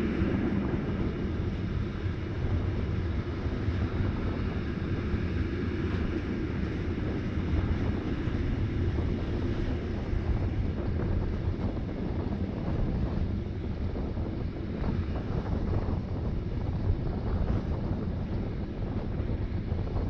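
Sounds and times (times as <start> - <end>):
electric train rumbling on rails: 0.0 - 20.0.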